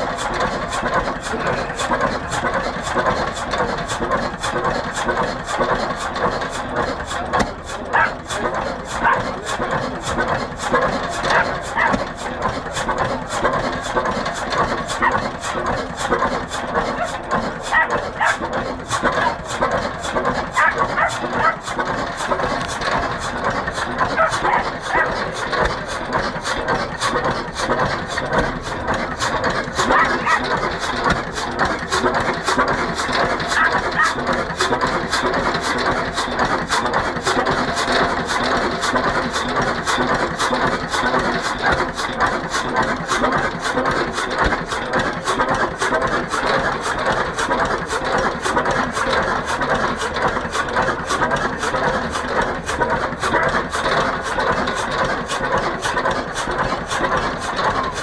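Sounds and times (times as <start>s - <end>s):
chain drive clatter: 0.0s - 58.0s
engine knocking steadily: 0.0s - 58.0s.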